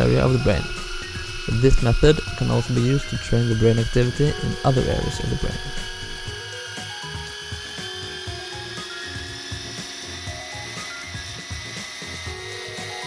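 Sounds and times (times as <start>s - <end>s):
background music: 0.0s - 13.0s
rc helicopter rotors whining: 0.0s - 13.0s.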